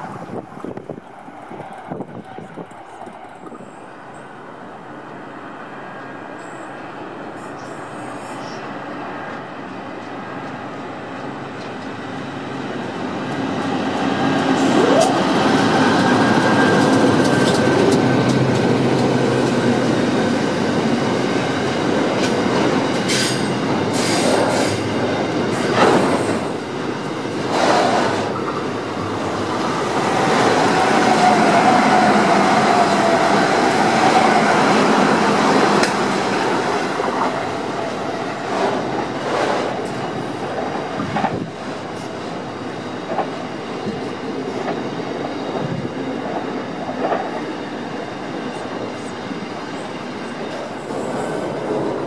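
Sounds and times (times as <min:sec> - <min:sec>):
diesel locomotives passing: 0:00.0 - 0:52.0.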